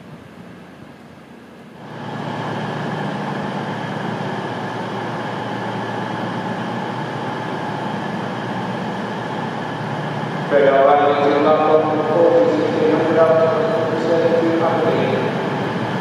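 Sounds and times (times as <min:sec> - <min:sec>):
constant high whine: 0:00.0 - 0:16.0
diesel engine drone: 0:00.0 - 0:16.0.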